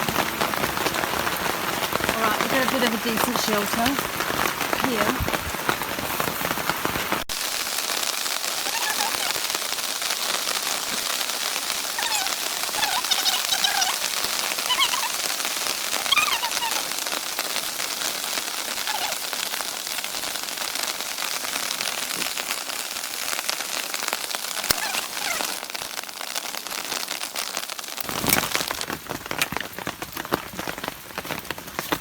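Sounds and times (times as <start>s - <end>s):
heavy rain on a tarp: 0.0s - 32.0s.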